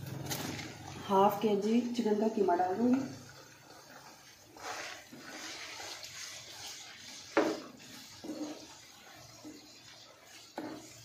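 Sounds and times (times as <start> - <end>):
meat and onions sizzling in oil: 0.0 - 11.0.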